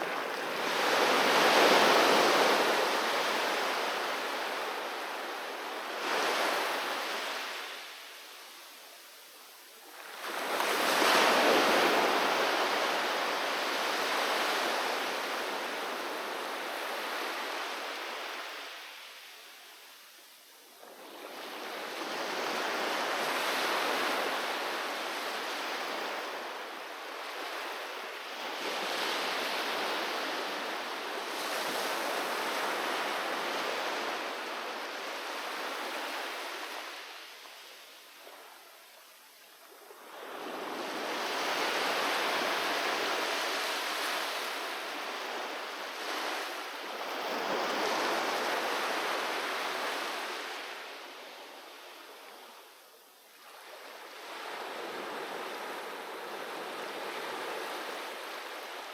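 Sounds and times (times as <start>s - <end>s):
sea waves breaking on a beach: 0.0s - 58.9s.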